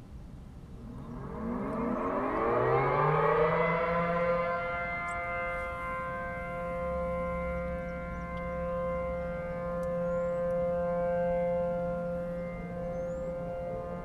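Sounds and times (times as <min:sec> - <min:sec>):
warning siren rising to steady chord: 0:00.0 - 0:14.0.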